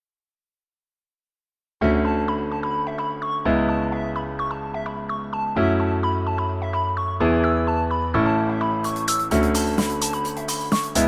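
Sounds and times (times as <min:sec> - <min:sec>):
piano background music: 0:01.8 - 0:11.0.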